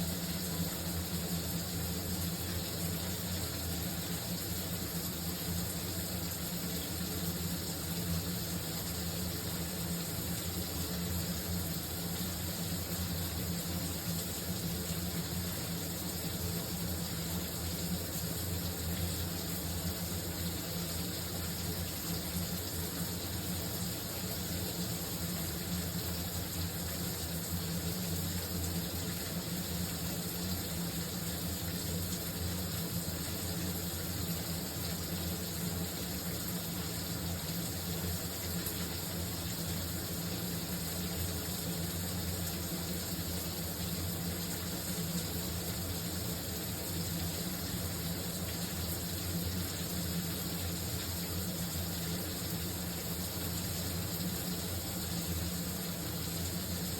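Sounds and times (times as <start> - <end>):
shower running: 0.0 - 56.9.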